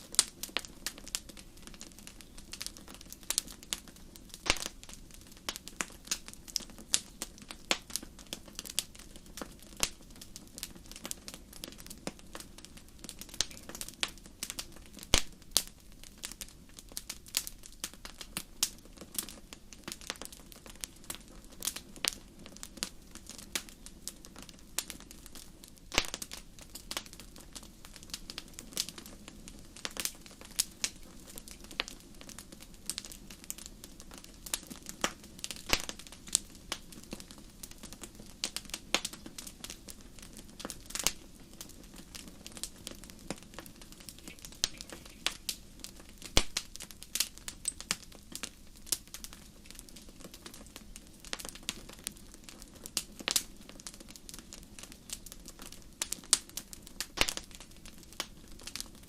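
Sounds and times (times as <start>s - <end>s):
low hiss of burning: 0.0s - 59.0s
wood fire crackling and popping: 0.0s - 59.0s.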